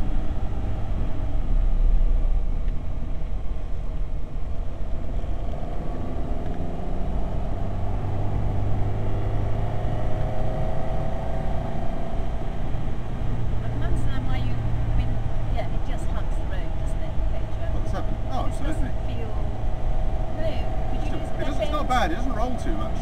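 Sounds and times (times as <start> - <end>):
car engine running at speed: 0.0 - 23.0
low road rumble: 0.0 - 23.0.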